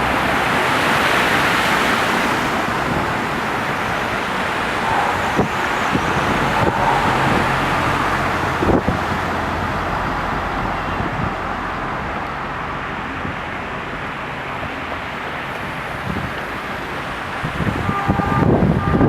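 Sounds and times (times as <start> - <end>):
traffic on flooded road: 0.0 - 19.0.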